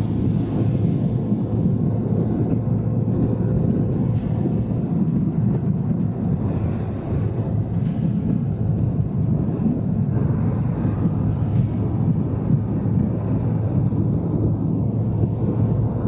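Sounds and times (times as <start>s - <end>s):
wind and road noise rumble: 0.0s - 16.0s.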